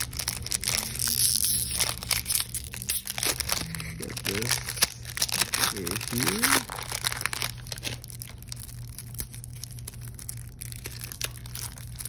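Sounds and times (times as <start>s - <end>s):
foil wrapper tearing and crinkling: 0.0s - 12.0s.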